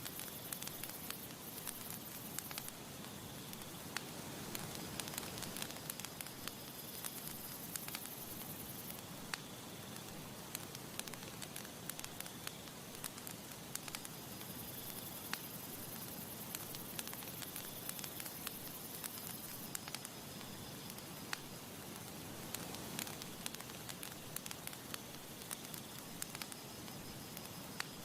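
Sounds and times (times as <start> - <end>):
burning wood popping: 0.0 - 28.0
campfire hissing: 0.0 - 28.0.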